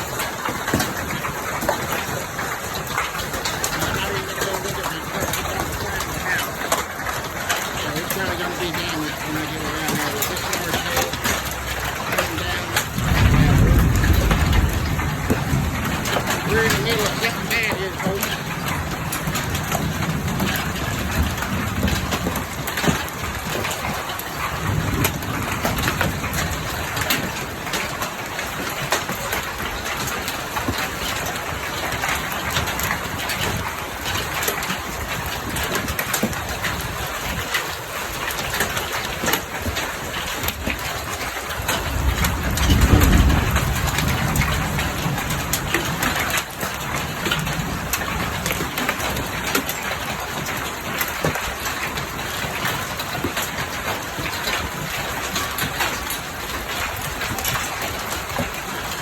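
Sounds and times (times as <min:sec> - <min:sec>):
hailstones clattering: 0:00.0 - 0:59.0
low thunder rumble: 0:00.0 - 0:59.0
rain and hail hiss: 0:00.0 - 0:59.0.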